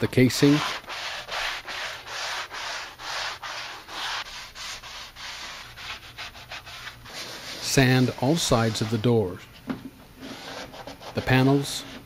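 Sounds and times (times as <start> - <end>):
hand sanding wood: 0.0 - 9.4, 10.2 - 12.0.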